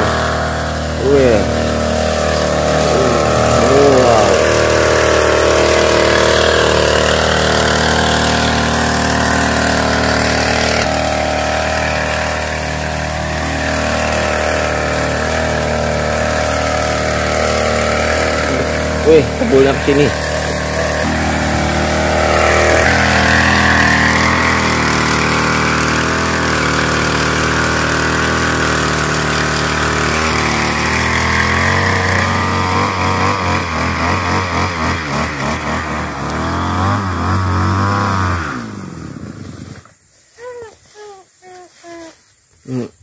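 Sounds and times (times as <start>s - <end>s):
sprayer engine running: 0.0s - 42.0s.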